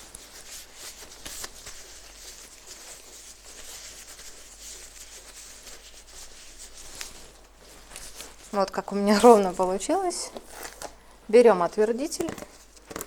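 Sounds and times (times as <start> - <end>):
faint plastic rustling: 0.0 - 13.0.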